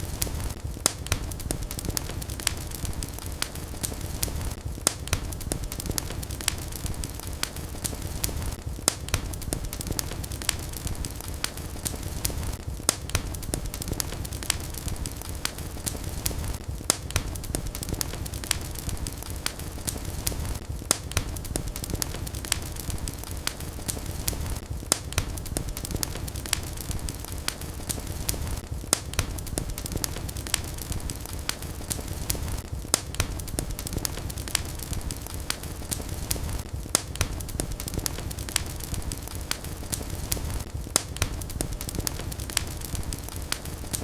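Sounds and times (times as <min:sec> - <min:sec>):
fire crackling with pops: 0:00.0 - 0:44.0.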